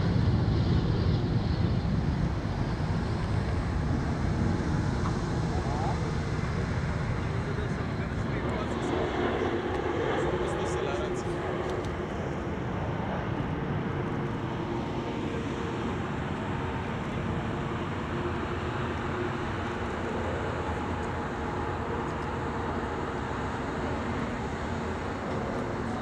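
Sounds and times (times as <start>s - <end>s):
jet engines overhead: 0.0s - 26.0s.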